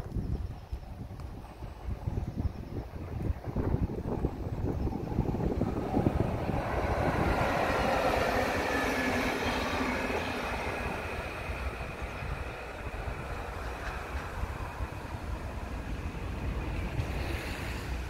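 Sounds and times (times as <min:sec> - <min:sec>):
train passing: 0:00.4 - 0:18.0.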